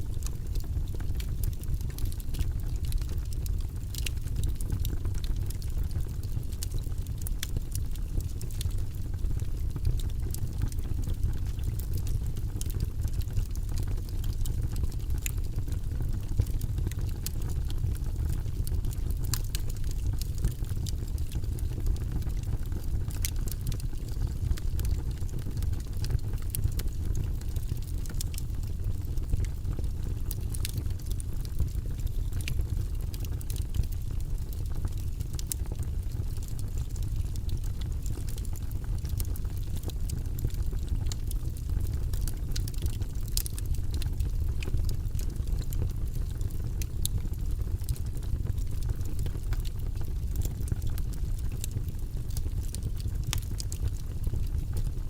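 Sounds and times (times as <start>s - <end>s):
fire rumbling in fireplace: 0.0s - 55.0s
burning wood crackling: 0.2s - 55.0s.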